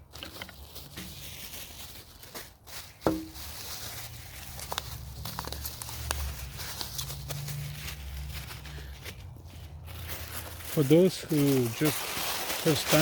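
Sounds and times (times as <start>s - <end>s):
wrapping material rustling: 0.0s - 13.0s.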